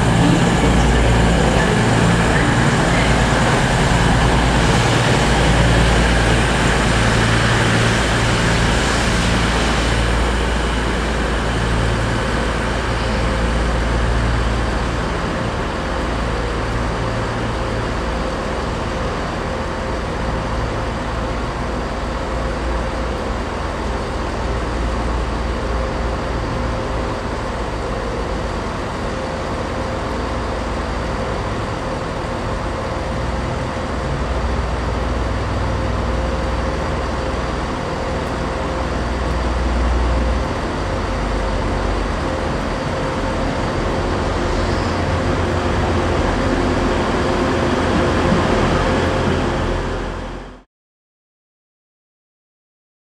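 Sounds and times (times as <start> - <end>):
faint steady whine: 0.0 - 50.6
train running close by: 0.0 - 50.6
low diesel train drone: 0.0 - 50.7.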